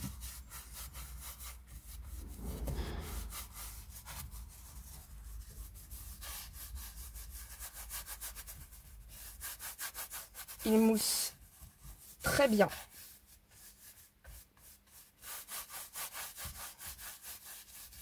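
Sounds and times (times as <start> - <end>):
brush scrubbing leather: 0.0 - 18.0.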